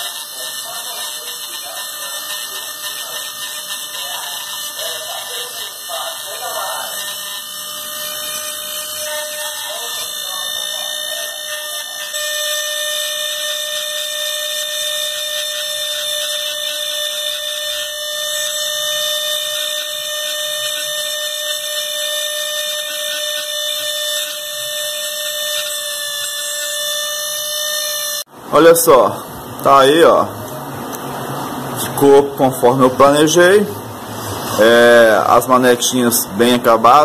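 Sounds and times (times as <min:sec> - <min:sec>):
rotary tool whining on metal: 0:00.0 - 0:37.0.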